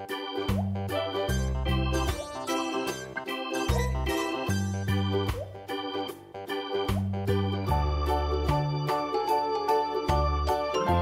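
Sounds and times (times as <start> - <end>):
keyboard tune with bass line: 0.0 - 11.0.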